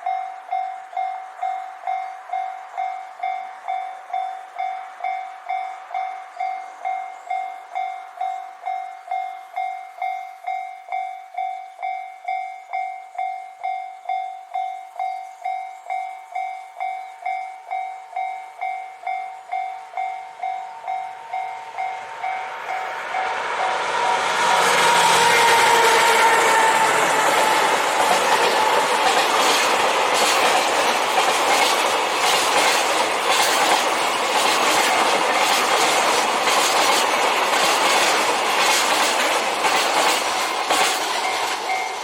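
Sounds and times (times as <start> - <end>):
freight train approaching: 0.0 - 42.0.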